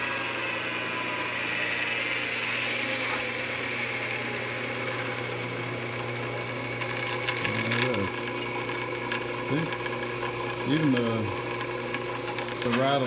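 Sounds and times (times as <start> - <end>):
lathe motor hum: 0.0 - 13.0
whine of pulleys and belt: 0.0 - 13.0.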